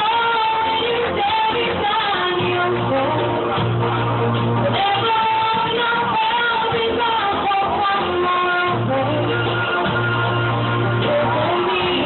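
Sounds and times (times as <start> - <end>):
woman singing into a microphone: 0.0 - 3.6, 4.6 - 12.0
amplified backing music: 0.0 - 12.0.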